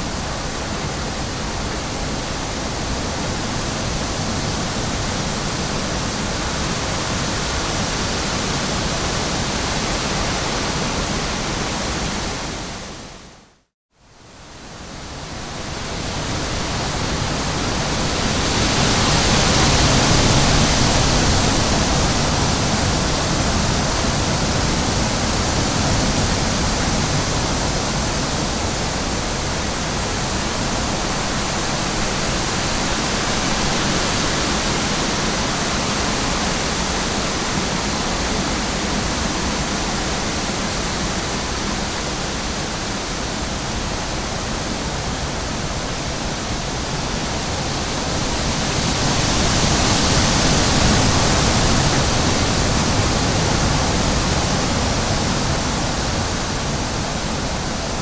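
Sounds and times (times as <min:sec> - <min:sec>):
rushing water: 0:00.0 - 0:13.4, 0:14.2 - 0:58.0.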